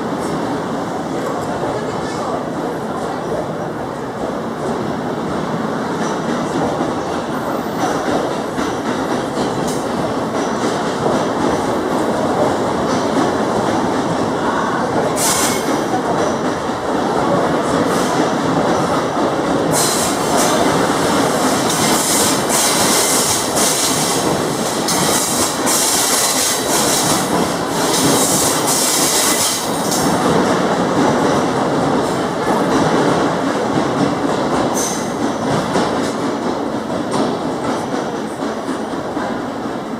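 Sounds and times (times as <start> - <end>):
train wheels clacking over rail joints: 6.0 - 14.1, 15.0 - 39.4.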